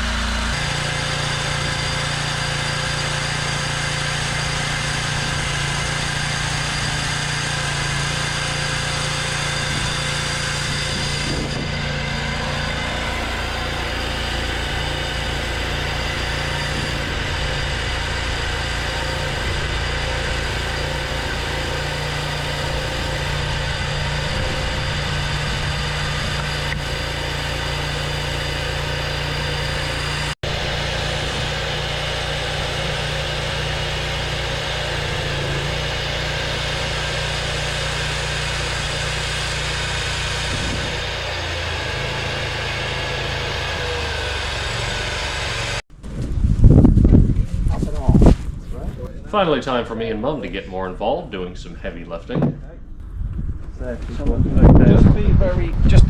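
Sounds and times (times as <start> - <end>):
sawmill milling a log: 0.0 - 45.8.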